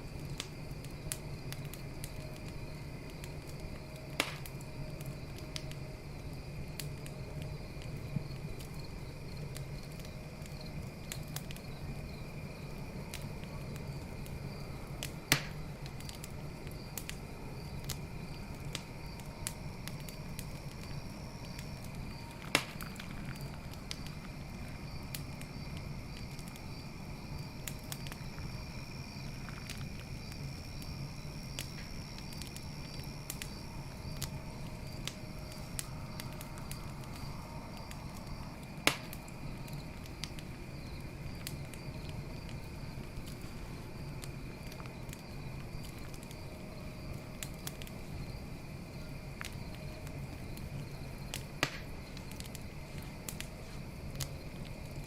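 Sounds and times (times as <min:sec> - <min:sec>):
campfire crackling: 0:00.0 - 0:55.0
crickets chirping: 0:00.0 - 0:55.0
fire popping: 0:00.0 - 0:55.0.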